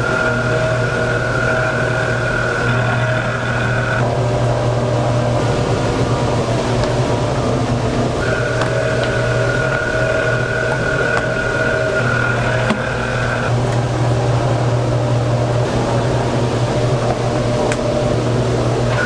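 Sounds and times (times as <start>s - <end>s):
high-pitched machine whine: 0.0s - 19.0s
kitchen machinery humming: 0.0s - 19.0s.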